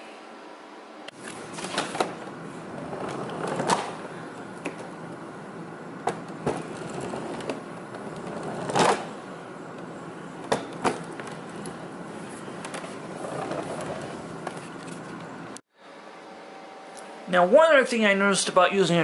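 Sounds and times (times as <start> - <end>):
vacuum cleaner running: 1.1 - 17.3.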